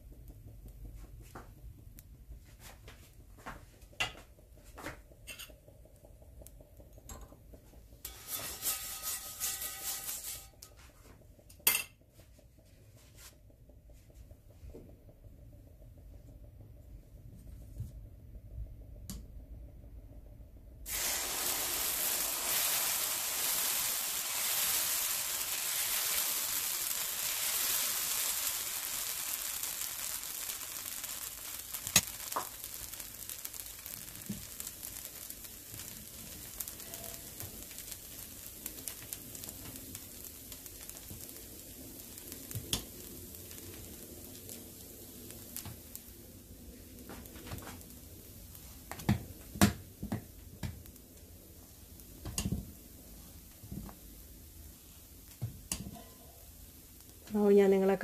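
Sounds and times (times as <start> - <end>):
batter sizzling on a skillet: 0.0 - 15.1, 20.8 - 58.0.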